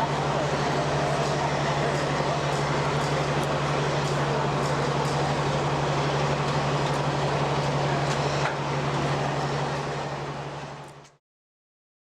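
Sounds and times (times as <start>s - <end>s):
locomotive engine droning: 0.0s - 11.0s.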